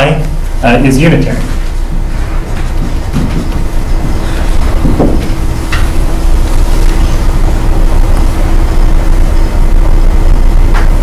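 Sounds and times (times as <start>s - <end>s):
faint hum: 0.0s - 11.0s
low room rumble: 0.0s - 11.0s.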